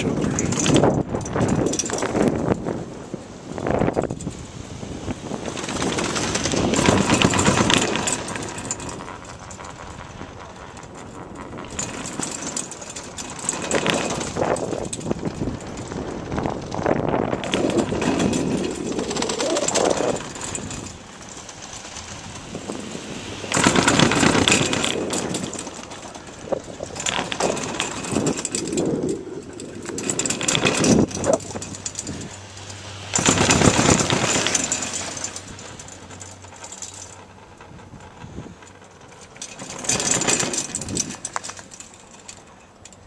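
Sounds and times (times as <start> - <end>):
wind buffeting microphone: 0.0 - 36.5, 37.2 - 41.5
low mechanical rumble of lift: 0.0 - 43.0.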